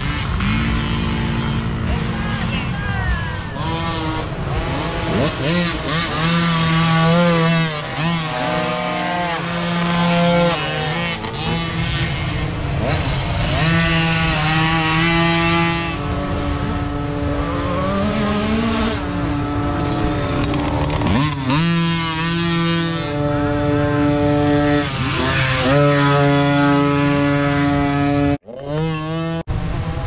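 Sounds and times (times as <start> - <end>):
small dirt bike engines revving: 0.0 - 30.0.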